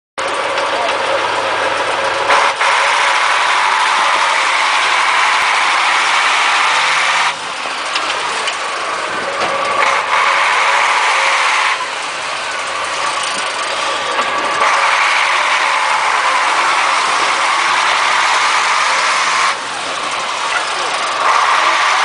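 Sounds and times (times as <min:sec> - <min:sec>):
truck diesel engine straining: 0:00.2 - 0:22.0.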